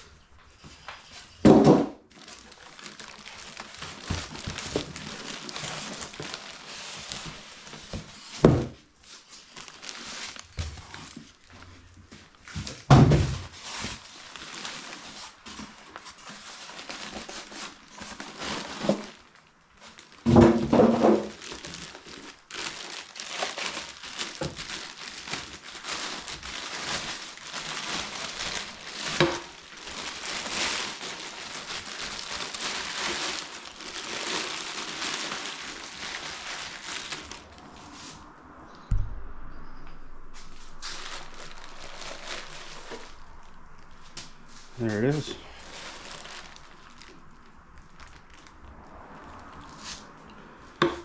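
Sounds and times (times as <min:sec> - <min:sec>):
packing material crinkling: 0:02.0 - 0:38.1, 0:40.4 - 0:50.1.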